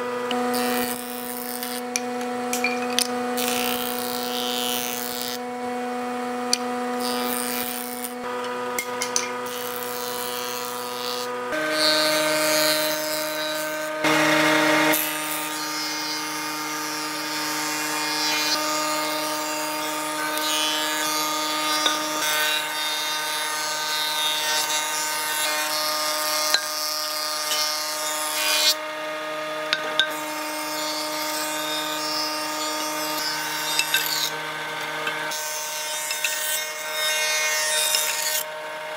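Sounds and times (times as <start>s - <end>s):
planing machines shaving wood: 0.0s - 38.9s.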